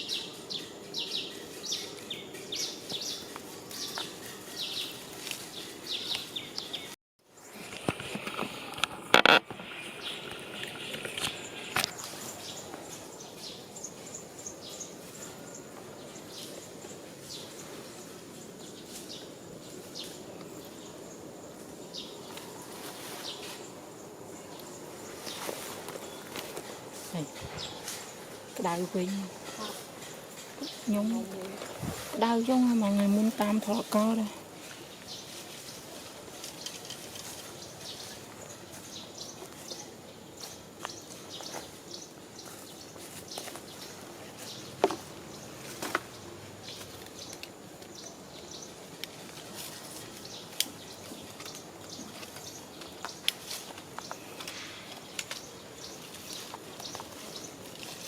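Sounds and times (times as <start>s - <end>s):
outdoor background hiss: 0.0s - 58.0s.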